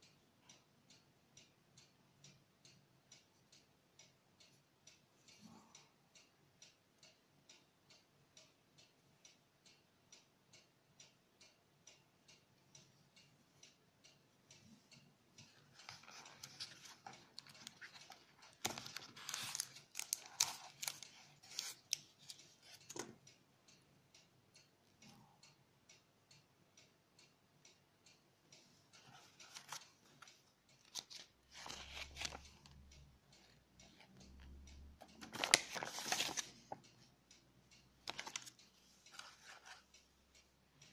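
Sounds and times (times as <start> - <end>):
faint steady ticking: 0.0 - 40.9.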